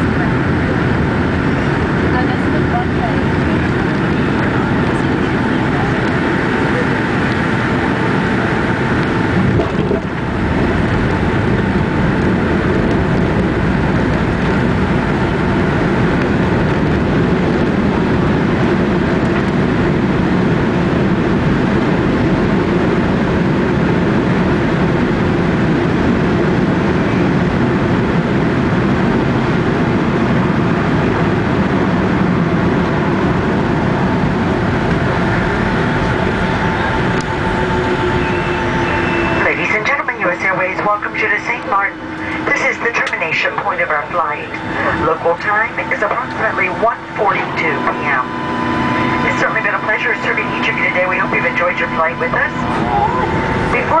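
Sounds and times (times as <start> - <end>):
airplane cabin engine rush: 0.0 - 54.0.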